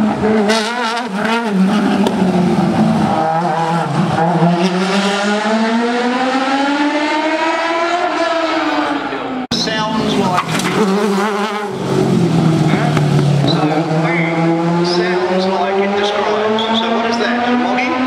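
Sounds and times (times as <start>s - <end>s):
high-revving racing car engine: 0.0s - 18.0s.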